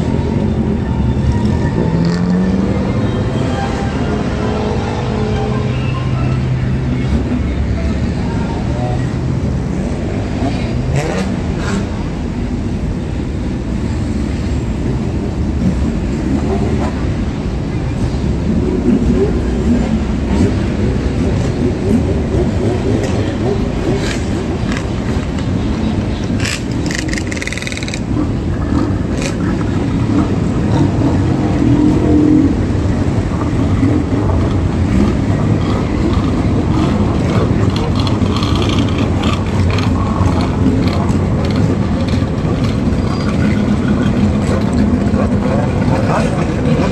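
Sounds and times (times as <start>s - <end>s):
car engines rumbling: 0.0s - 46.9s.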